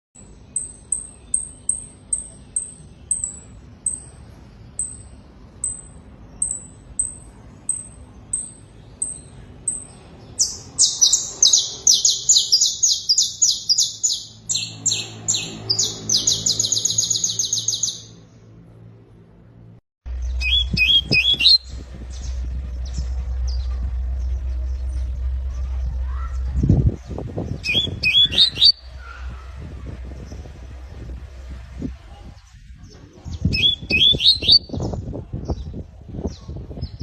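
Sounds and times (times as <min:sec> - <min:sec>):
canary singing: 0:00.2 - 0:18.3, 0:20.1 - 0:31.7, 0:32.4 - 0:35.8.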